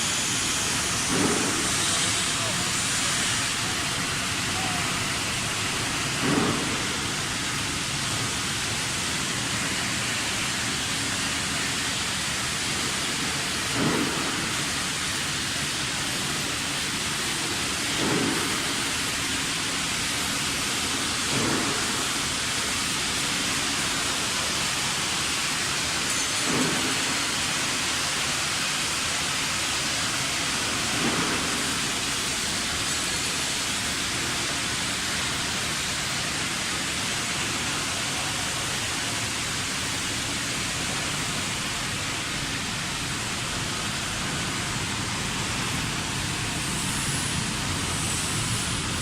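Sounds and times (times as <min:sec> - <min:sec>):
machinery rushing air noise: 0:00.0 - 0:49.0.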